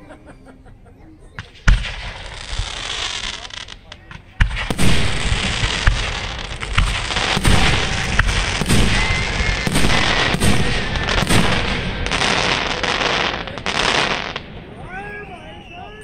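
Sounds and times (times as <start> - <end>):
firework booms: 1.4 - 14.9
fireworks crackle and rumble: 1.4 - 16.0.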